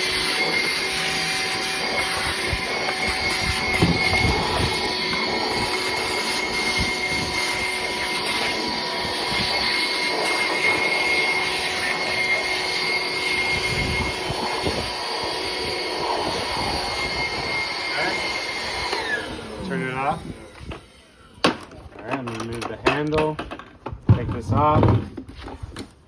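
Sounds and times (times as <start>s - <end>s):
wet dry vacuum running: 0.0s - 21.3s.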